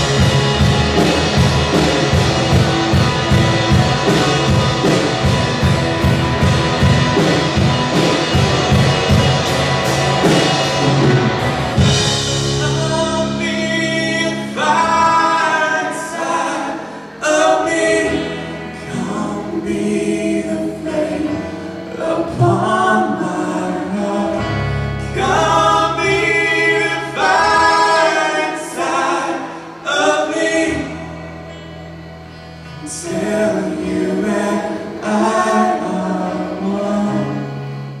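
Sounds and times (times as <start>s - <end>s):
voices singing a chorus: 0.0s - 31.7s, 32.6s - 38.0s
electric guitar: 0.0s - 38.0s
held bass notes: 0.0s - 38.0s
keyboard: 0.0s - 38.0s.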